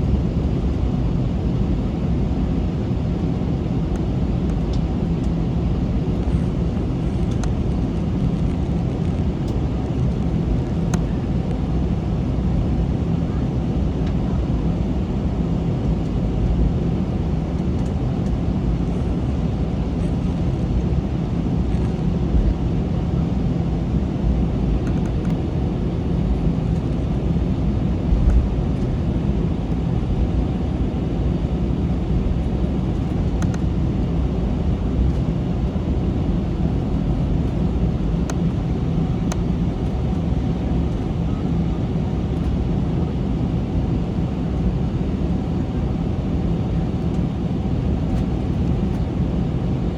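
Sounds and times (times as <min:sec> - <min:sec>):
jet engines rumbling: 0:00.0 - 0:49.9.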